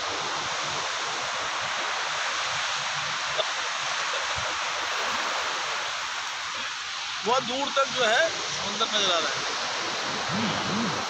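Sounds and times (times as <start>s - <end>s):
small waves washing on sand: 0.0s - 11.0s.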